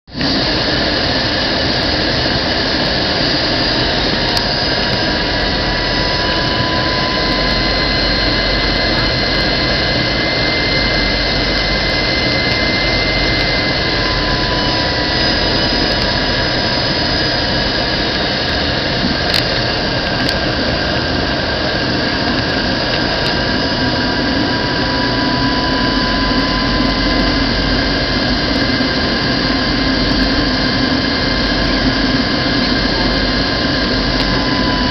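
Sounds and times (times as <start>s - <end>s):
high whining tones: 0.1s - 34.9s
jet engine and airflow noise: 0.1s - 34.9s
low hum: 0.1s - 34.9s.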